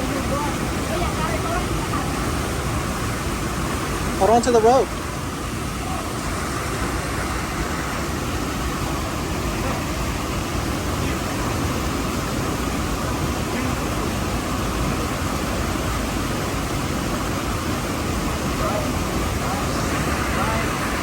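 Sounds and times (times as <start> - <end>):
fast river water rushing: 0.0 - 21.0.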